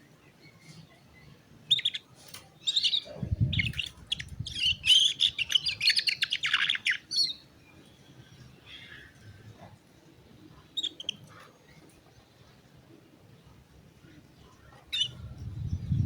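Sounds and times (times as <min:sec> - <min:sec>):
canary singing trills and chirps: 0:00.4 - 0:09.7, 0:10.3 - 0:12.6, 0:14.4 - 0:16.0.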